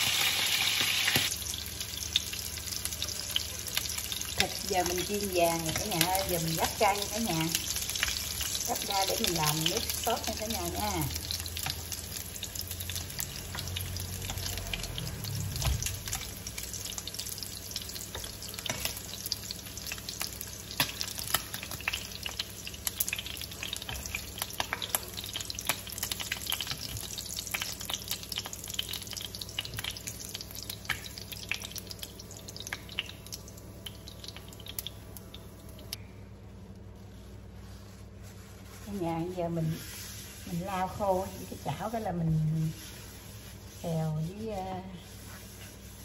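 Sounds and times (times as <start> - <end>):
ribs sizzling in hot oil: 0.0 - 36.0, 38.4 - 46.0.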